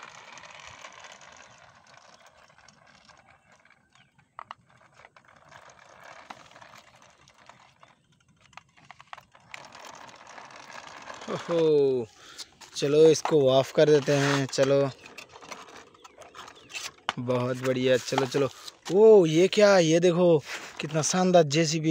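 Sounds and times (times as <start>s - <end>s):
toy car motor and wheels: 0.0s - 21.9s.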